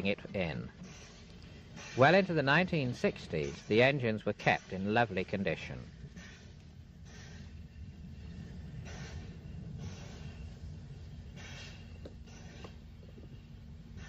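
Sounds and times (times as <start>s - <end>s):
low steady hum: 0.0s - 14.0s
steam locomotive chuffing: 0.0s - 14.0s.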